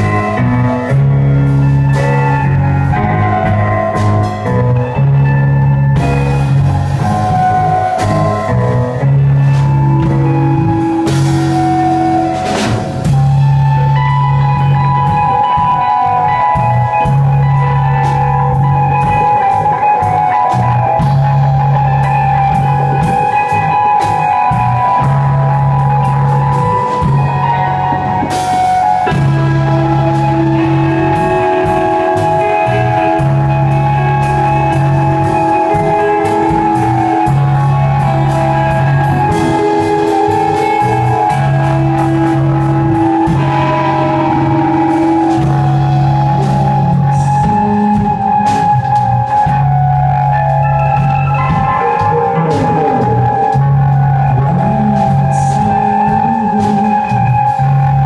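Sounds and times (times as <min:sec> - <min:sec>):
bass part: 0:00.0 - 0:58.0
rock band playing: 0:00.0 - 0:58.0.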